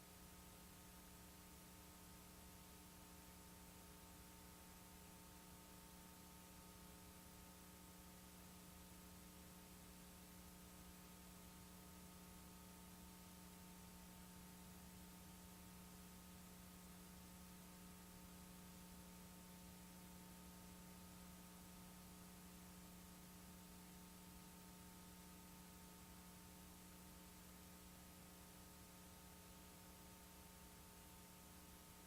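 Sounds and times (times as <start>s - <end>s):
faint electrical hum with hiss: 0.0s - 32.0s.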